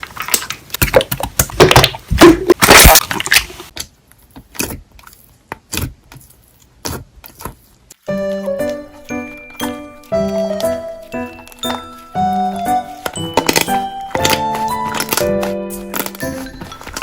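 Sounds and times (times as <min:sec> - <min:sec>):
slime crackling and squishing: 0:00.0 - 0:17.0.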